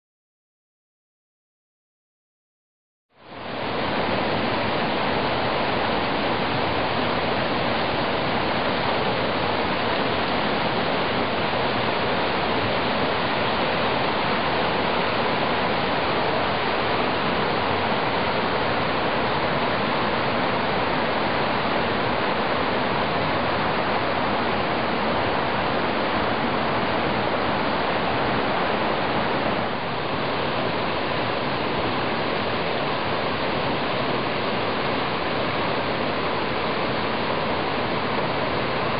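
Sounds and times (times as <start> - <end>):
creek water rushing: 3.2 - 38.9.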